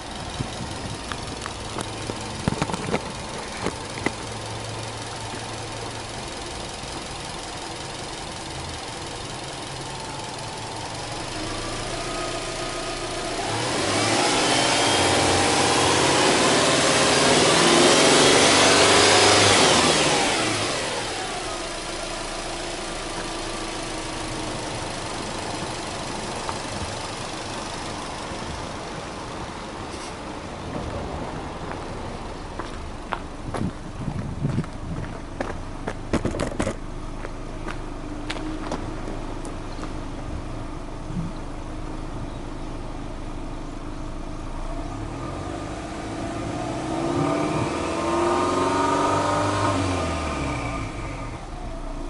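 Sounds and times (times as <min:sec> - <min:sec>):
car engine revving and idling: 0:00.0 - 0:52.0.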